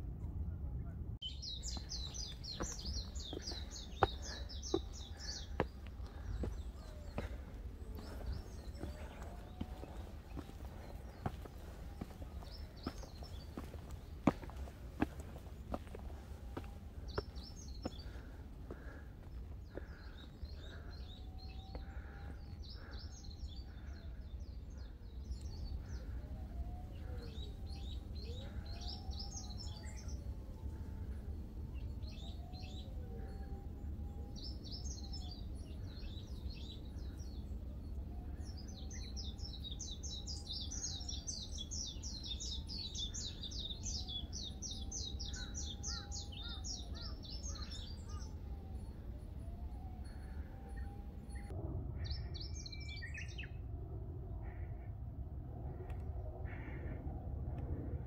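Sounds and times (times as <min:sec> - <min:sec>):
steady low rumble: 0:00.0 - 0:58.0
birds chirping and trilling: 0:01.2 - 0:55.0, 0:55.6 - 0:58.0.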